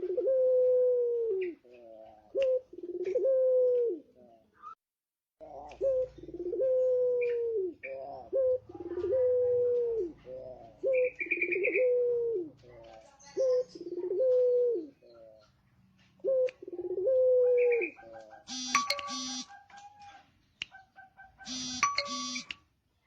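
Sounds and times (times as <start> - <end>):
dove cooing: 0.0 - 4.8, 5.4 - 22.5.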